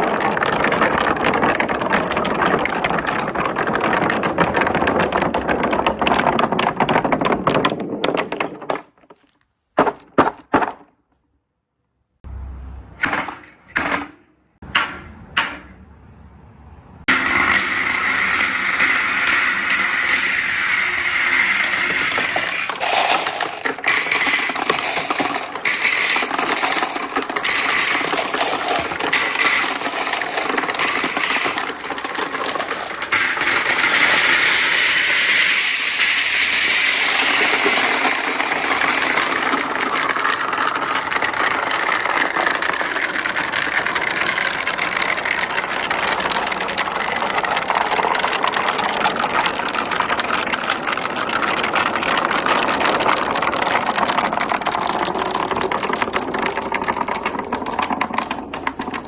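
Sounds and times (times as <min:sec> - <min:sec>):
marbles rattling along tracks: 0:00.0 - 0:09.4, 0:17.0 - 0:59.0.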